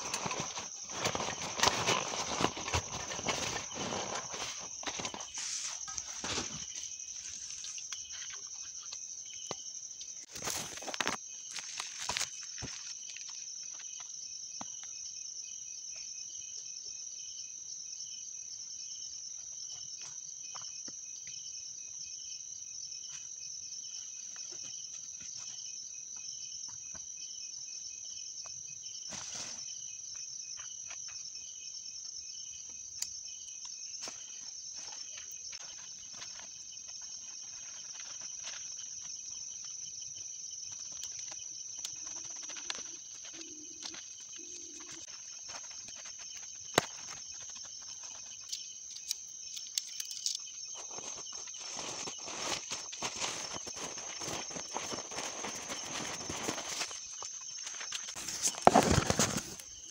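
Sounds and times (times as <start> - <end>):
insects trilling: 0.0 - 59.9
pulsing insect chirp: 0.0 - 59.9.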